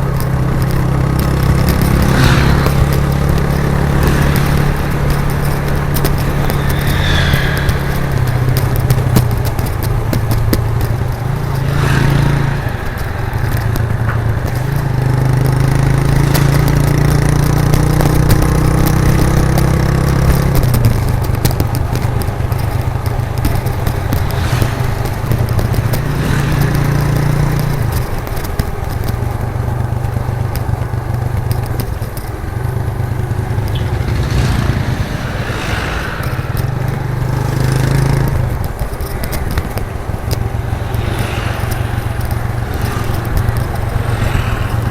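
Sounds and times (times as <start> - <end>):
motorcycle engine riding: 0.0 - 44.9.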